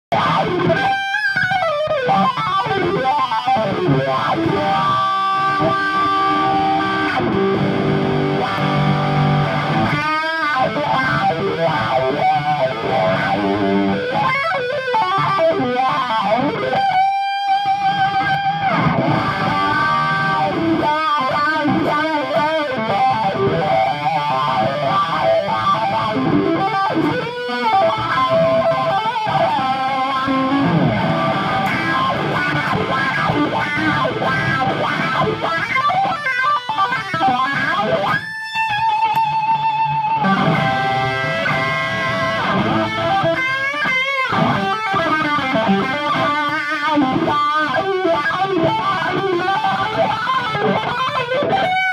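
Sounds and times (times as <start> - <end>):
electric guitar with wah pedal: 0.1 - 51.9.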